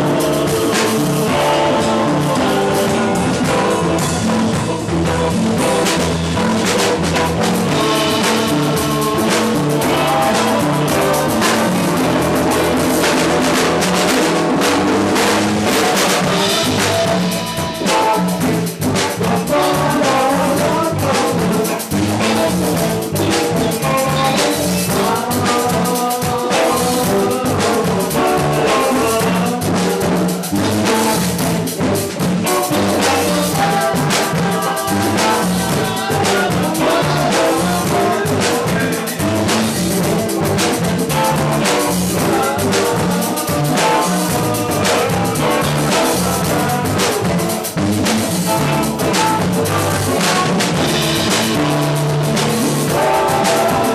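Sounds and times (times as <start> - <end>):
man singing: 0.0 - 6.2, 6.8 - 14.4, 15.1 - 53.9
congas and drums: 0.0 - 53.9
electric guitar: 0.0 - 53.9.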